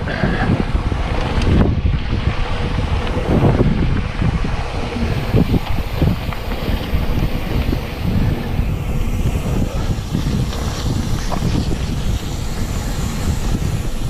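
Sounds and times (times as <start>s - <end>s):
bike knocking and rattling: 0.0s - 14.0s
bike tyres rumbling on dirt: 0.0s - 14.0s
wind buffeting microphone: 0.0s - 14.0s.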